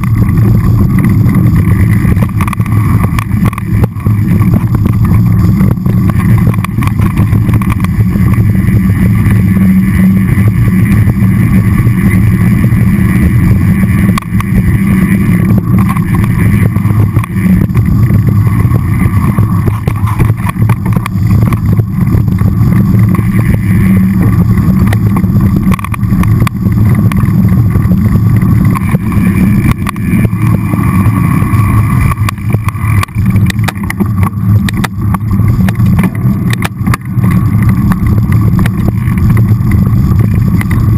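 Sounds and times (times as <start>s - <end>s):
bike knocks and rattles: 0.0s - 40.9s
bike tyres and wind rumble: 0.0s - 40.9s.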